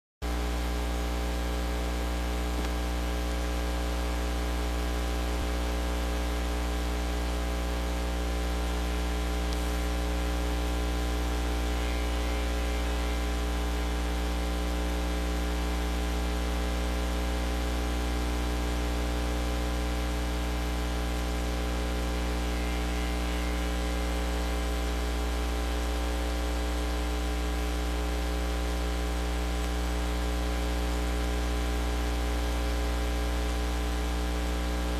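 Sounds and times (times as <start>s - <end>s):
electrical mains hum: 0.3s - 34.9s.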